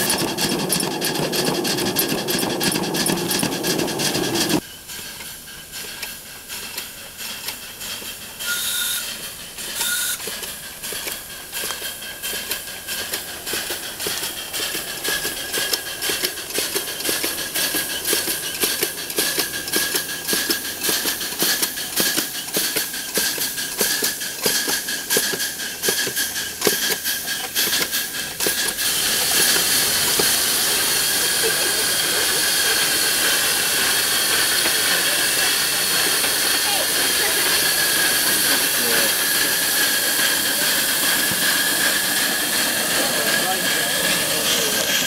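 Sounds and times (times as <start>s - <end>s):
steam hissing: 0.0s - 45.0s
steam locomotive exhaust beats: 0.0s - 45.0s.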